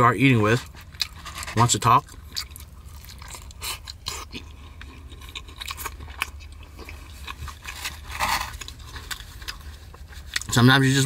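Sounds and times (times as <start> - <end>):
person chewing food: 0.5 - 10.6.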